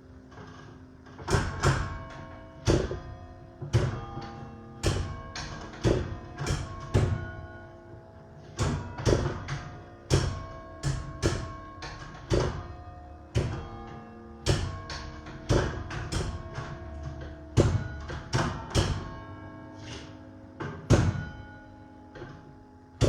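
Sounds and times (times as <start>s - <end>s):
church bells ringing a slow melody: 1.7s - 23.0s.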